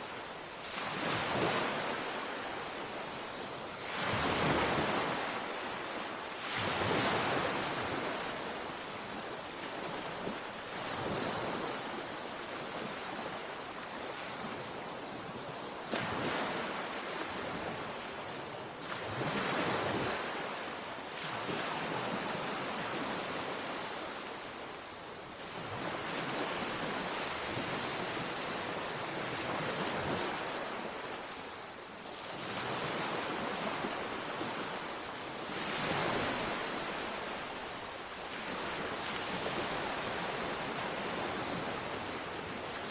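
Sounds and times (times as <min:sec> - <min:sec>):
sea waves breaking on shore: 0:00.0 - 0:42.9.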